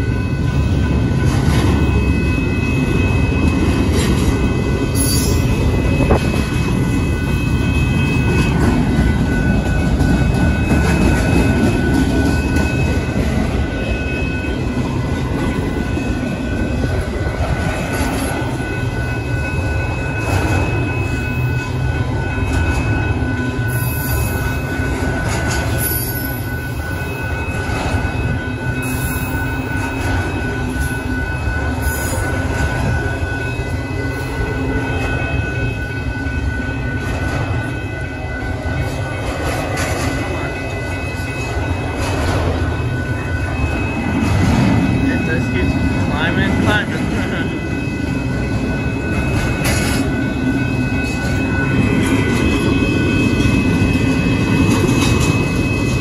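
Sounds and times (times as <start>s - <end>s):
steady high-pitched tones: 0.0s - 56.0s
steel wheels rumbling on rail: 0.0s - 56.0s.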